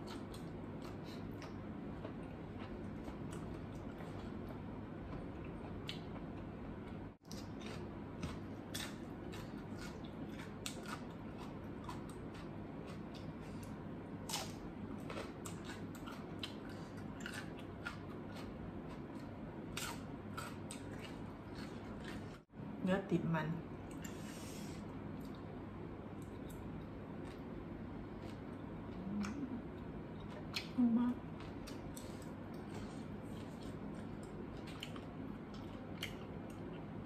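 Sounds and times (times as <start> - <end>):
person chewing food: 0.0 - 22.5, 26.1 - 37.0
low background hum: 0.0 - 37.0.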